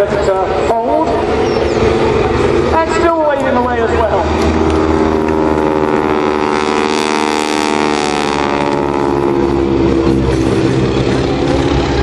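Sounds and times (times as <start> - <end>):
biplane engine drone: 0.0 - 12.0.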